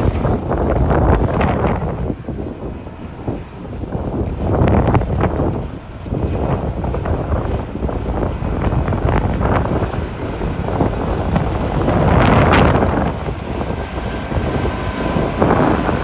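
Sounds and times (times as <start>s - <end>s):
bulldozer diesel engine rumbling: 0.0s - 16.0s
wind buffeting microphone: 0.0s - 16.0s.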